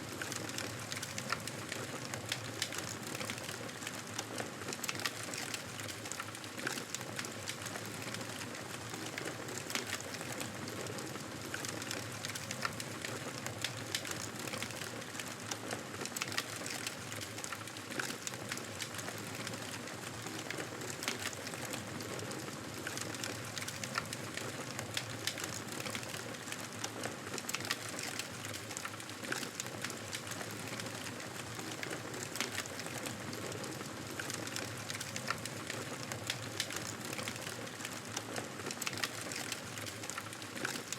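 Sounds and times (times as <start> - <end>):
campfire hissing and crackling: 0.1 - 40.9.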